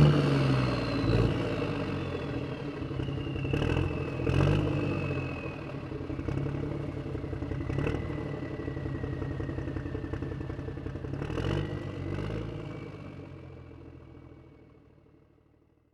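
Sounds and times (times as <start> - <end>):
vehicle engine pulling away: 0.0 - 15.2.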